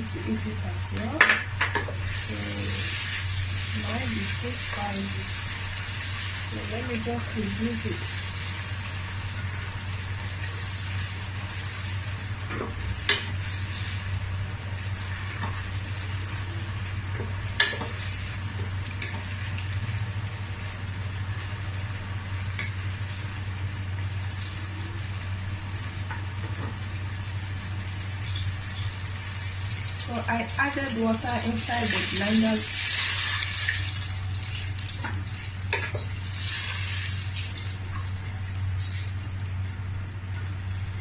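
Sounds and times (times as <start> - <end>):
food sizzling in oil: 0.1 - 39.4.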